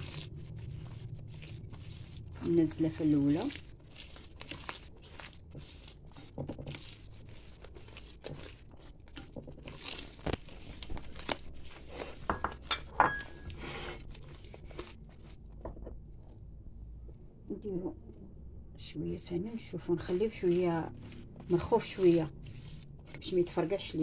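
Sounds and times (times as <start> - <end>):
dough squishing in bowl: 0.0 - 24.0.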